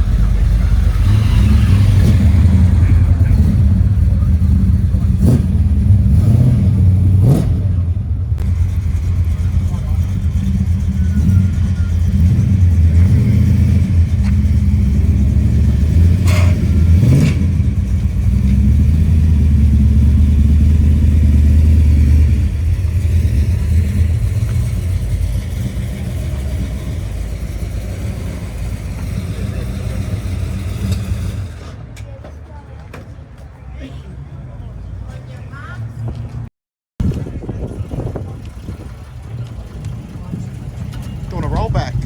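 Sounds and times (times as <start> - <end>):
car engine rumbling and revving: 0.0 - 32.4, 33.1 - 42.0.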